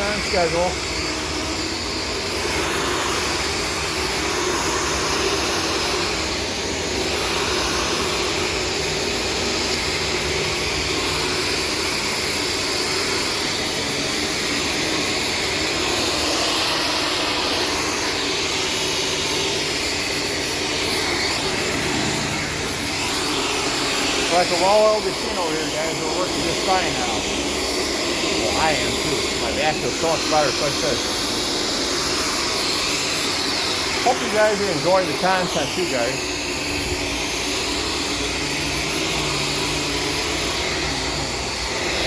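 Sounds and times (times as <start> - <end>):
vacuum cleaner running: 0.0 - 42.0.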